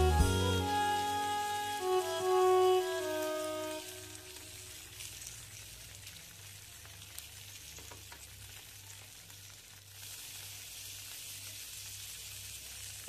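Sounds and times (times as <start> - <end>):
faint crackles: 1.0 - 13.0
food sizzling on a grill pan: 1.4 - 13.0.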